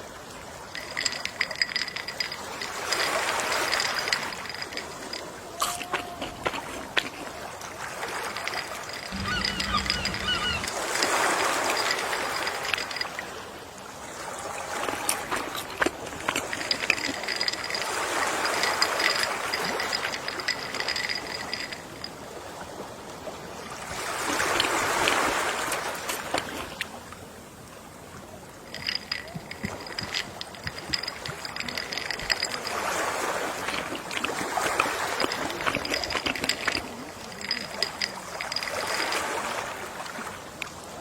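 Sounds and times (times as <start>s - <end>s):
ocean waves washing ashore: 0.0s - 41.0s.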